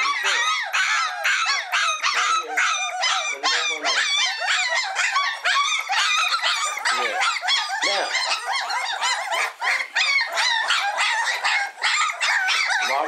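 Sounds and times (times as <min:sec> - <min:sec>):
puppies whining and yelping: 0:00.0 - 0:13.0.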